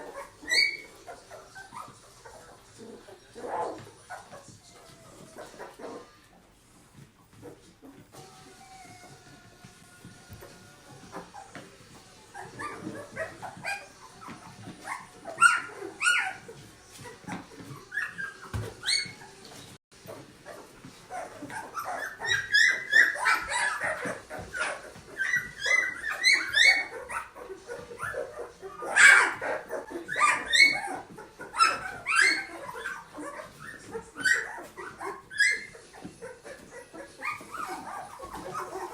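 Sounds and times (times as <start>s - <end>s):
puppies whimpering and squeaking: 0.0s - 38.9s.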